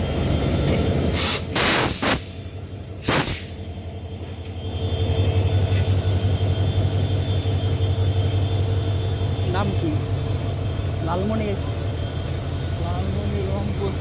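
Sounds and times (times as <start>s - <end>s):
passenger train passing: 0.0s - 14.0s.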